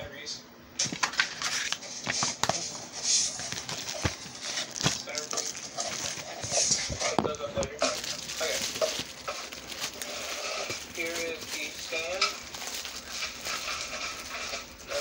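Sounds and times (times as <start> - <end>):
packaging rustling: 0.9 - 15.0.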